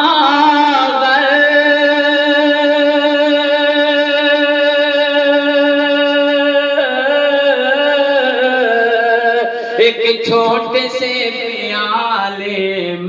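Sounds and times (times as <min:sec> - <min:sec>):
man singing long note: 0:00.0 - 0:13.0.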